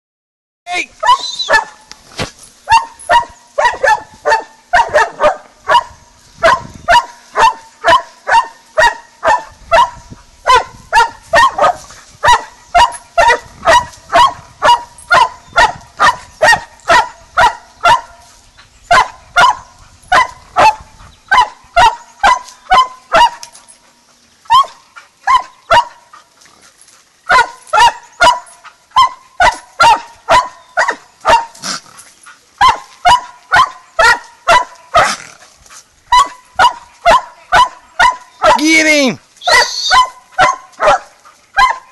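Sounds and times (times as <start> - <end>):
dog barking loudly: 1.0 - 1.9, 2.7 - 18.3, 18.9 - 23.6, 24.5 - 26.2, 27.2 - 31.8, 32.6 - 35.2, 36.1 - 41.9.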